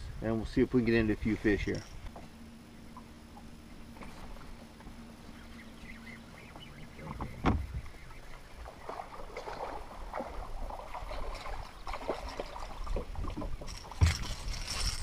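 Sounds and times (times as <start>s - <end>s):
water lapping against boat hull: 0.8s - 15.0s.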